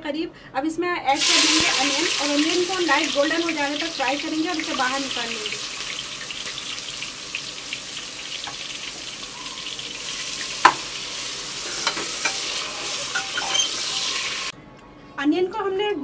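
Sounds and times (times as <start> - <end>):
onions sizzling in oil: 1.1 - 14.5.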